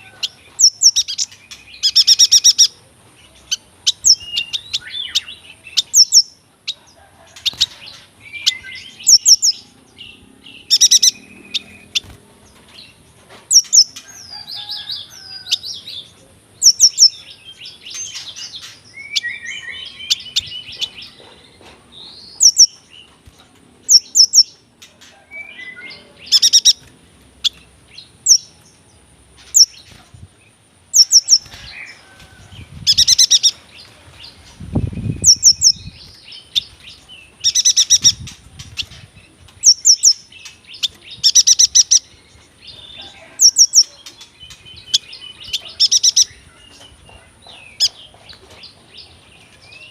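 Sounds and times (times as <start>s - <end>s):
bird singing chirps and trills: 0.0s - 49.9s.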